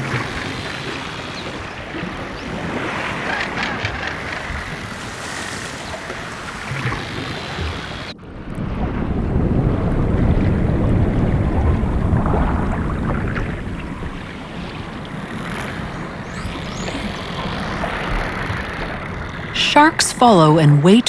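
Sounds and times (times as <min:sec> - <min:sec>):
waves rushing and churning water: 0:00.0 - 0:21.0
wind on microphone: 0:01.7 - 0:20.1.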